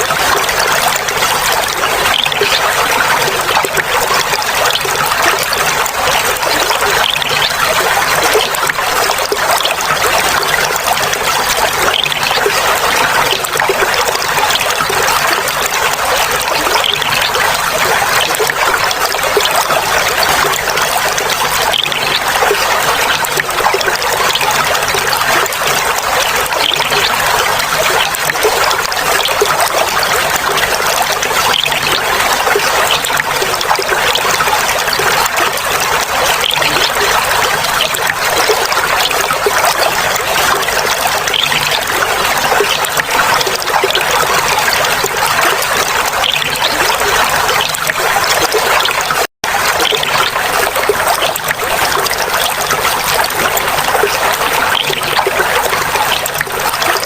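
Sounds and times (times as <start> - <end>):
water trickling and babbling: 0.0 - 57.0.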